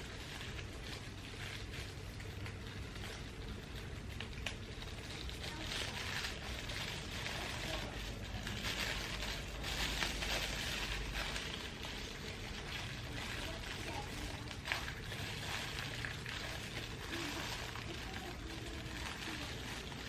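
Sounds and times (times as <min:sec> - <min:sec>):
packaging rustling and crinkling: 0:00.0 - 0:20.0.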